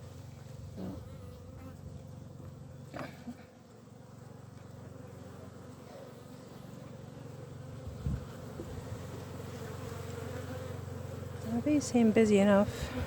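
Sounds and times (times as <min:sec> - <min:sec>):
bees buzzing: 0:00.1 - 0:13.0.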